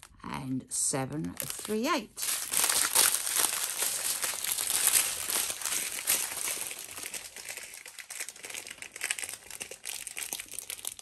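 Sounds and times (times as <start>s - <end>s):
plastic bags crinkling: 1.2s - 11.0s.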